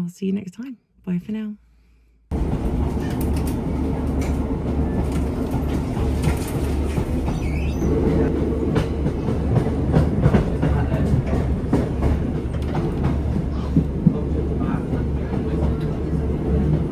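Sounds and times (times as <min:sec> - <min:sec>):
train rumble: 0:02.3 - 0:16.9
wheels clicking on rails: 0:02.3 - 0:16.9.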